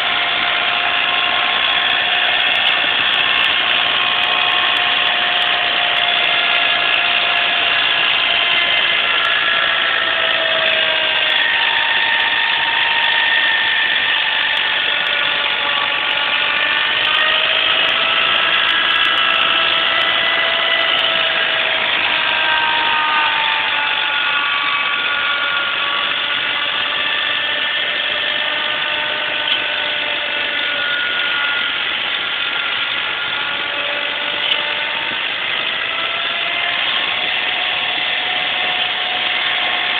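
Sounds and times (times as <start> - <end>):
tractor engine and snowblower running: 0.0 - 39.9.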